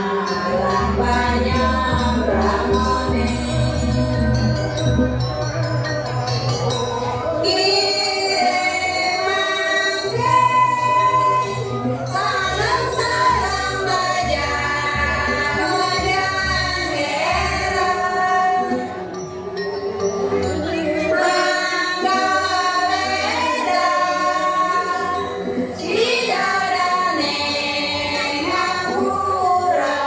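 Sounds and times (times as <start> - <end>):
women singing in a group: 0.0 - 4.9, 6.4 - 19.1, 19.9 - 30.0.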